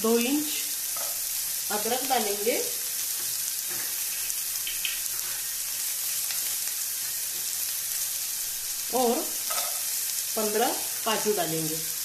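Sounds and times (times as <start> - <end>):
onions frying in hot oil: 0.0 - 12.0.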